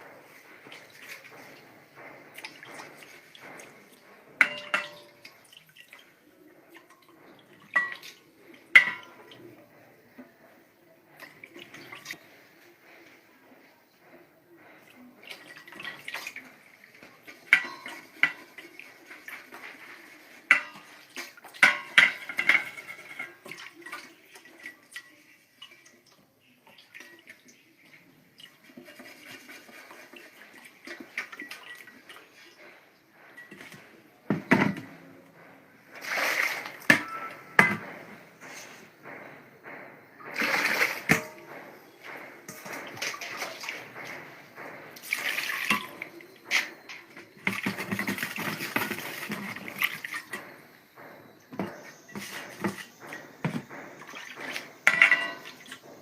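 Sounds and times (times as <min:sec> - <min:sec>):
objects clattering in water: 0:00.0 - 0:10.5, 0:11.1 - 0:12.7, 0:14.8 - 0:56.0
water splashing and sloshing: 0:00.0 - 0:13.1, 0:14.8 - 0:56.0.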